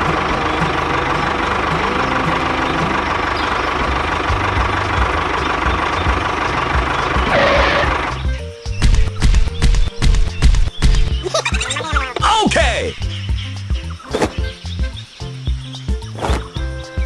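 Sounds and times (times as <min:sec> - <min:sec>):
tractor engine chugging: 0:00.0 - 0:14.6.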